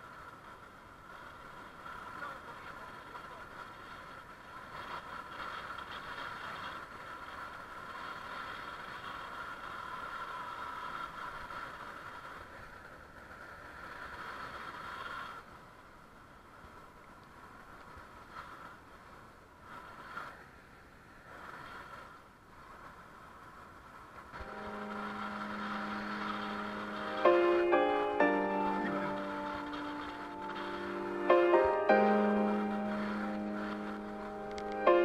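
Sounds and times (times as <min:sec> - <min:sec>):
bicycle tyres and drivetrain whirring: 0:00.0 - 0:35.0
rush of air: 0:03.5 - 0:35.0.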